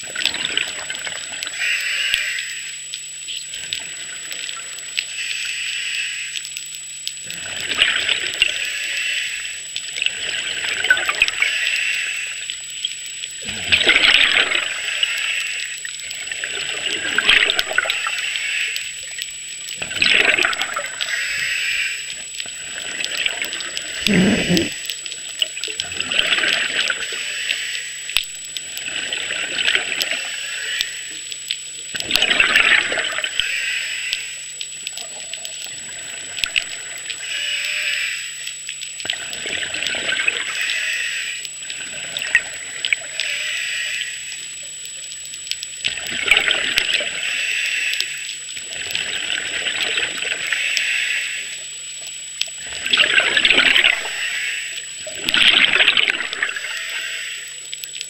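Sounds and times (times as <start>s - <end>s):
underwater bubbles rushing: 0.0s - 5.5s, 6.4s - 37.4s, 38.4s - 58.0s
faint high whine: 0.0s - 58.0s.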